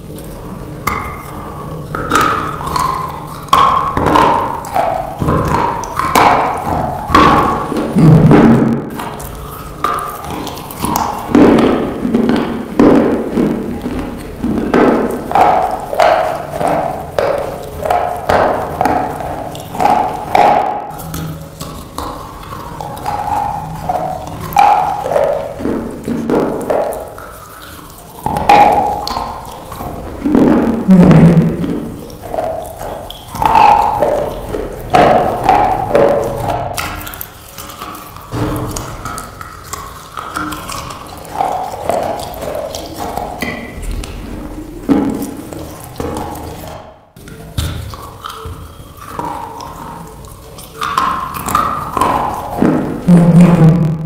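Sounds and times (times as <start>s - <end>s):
brittle crunching of chewing: 0.0s - 53.1s.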